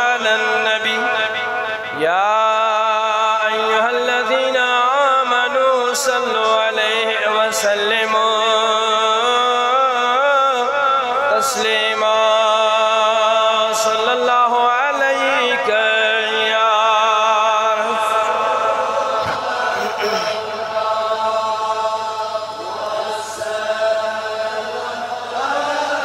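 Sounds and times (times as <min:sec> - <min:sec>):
man chanting devotional recitation: 0:00.0 - 0:26.0.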